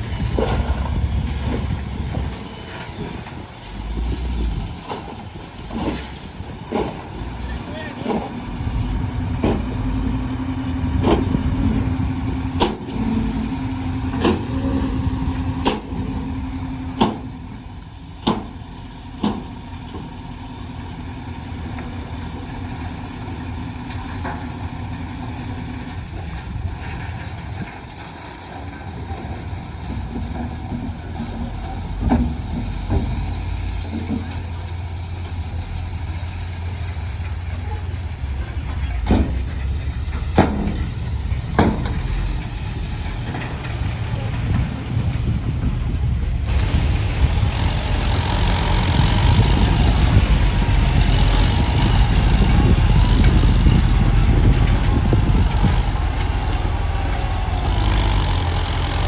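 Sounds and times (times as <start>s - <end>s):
heavy truck engine running: 0.0s - 59.0s
steady engine hum: 0.0s - 59.0s.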